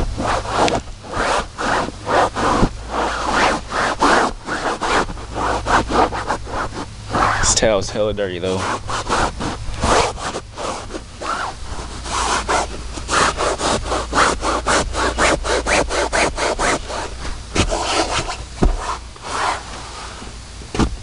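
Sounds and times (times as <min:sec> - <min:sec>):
towel scrubbing upholstery: 0:00.0 - 0:07.8, 0:08.4 - 0:20.3.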